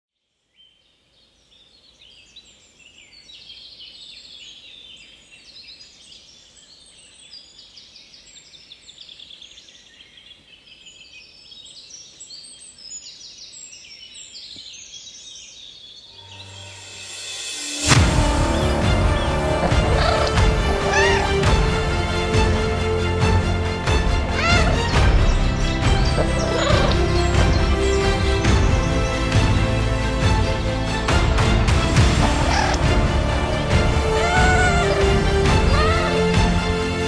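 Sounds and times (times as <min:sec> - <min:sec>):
songbirds singing: 0:00.3 - 0:16.8, 0:18.2 - 0:23.0, 0:23.9 - 0:37.0.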